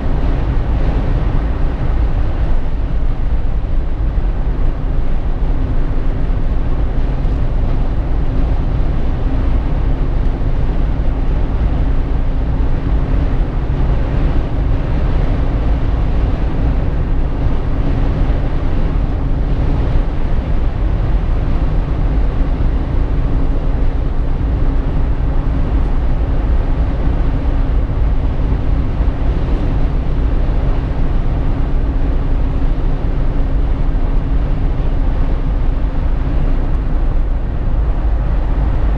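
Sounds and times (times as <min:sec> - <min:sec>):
car road noise inside cabin: 0:00.0 - 0:38.9.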